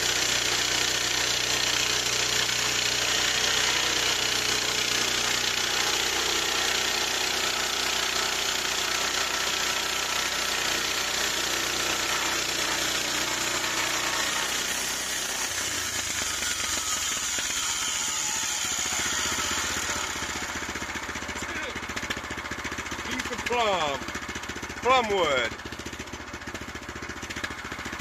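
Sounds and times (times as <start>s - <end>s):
sawmill gas engine running: 0.0s - 28.0s.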